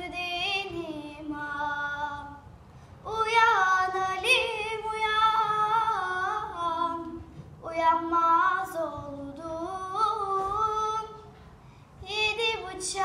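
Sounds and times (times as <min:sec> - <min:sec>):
girl singing unaccompanied: 0:00.0 - 0:11.4, 0:12.0 - 0:13.0.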